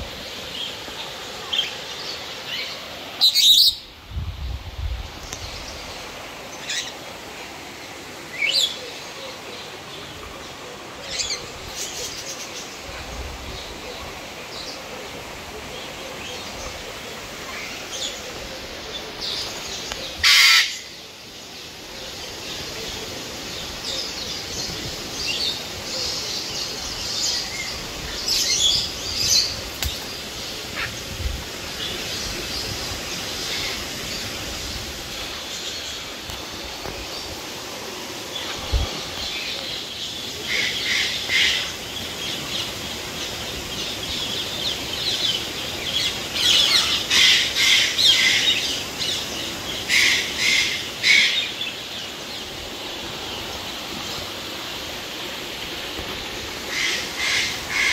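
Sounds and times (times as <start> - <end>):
background hiss: 0.0 - 57.9.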